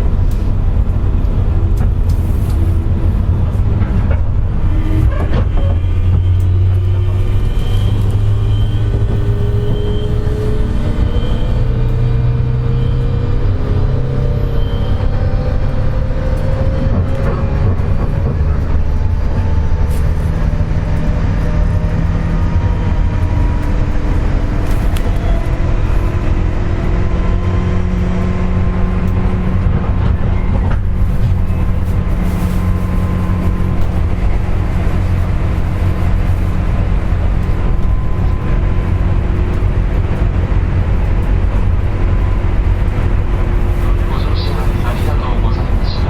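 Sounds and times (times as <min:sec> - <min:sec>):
wheels rumbling on rail: 0:00.0 - 0:46.0.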